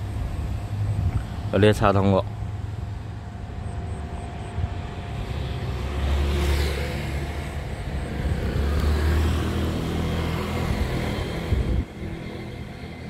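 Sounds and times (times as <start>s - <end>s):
vehicle engine low rumble: 0.0s - 13.0s.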